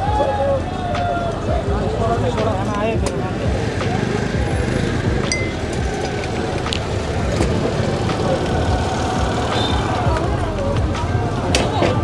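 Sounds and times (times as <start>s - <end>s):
indistinct crowd voices: 0.0s - 12.0s
traffic noise: 0.0s - 12.0s.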